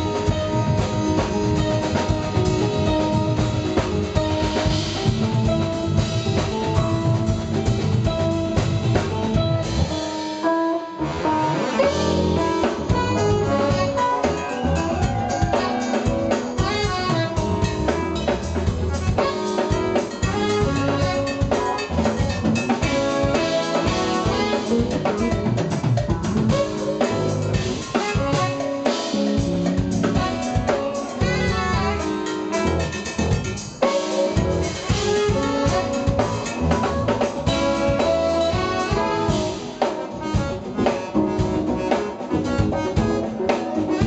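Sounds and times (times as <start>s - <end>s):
drum kit beat: 0.0s - 44.0s
jazz fusion band playing: 0.0s - 44.0s
saxophone and trumpet: 0.0s - 44.0s.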